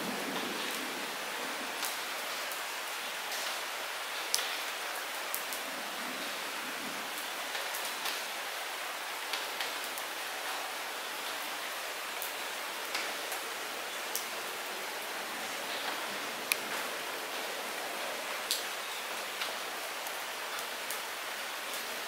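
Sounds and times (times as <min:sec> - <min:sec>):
light rain falling: 0:00.0 - 0:22.0
raindrops ticking on surfaces: 0:00.0 - 0:22.0.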